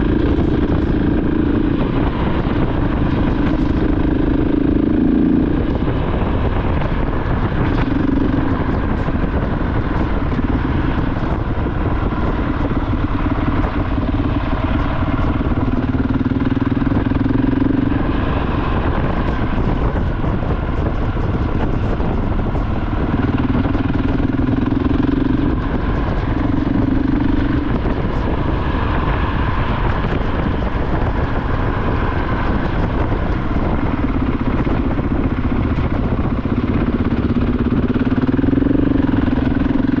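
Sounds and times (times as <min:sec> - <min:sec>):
heavy wind noise: 0:00.0 - 0:40.0
motorcycle engine running: 0:00.0 - 0:40.0.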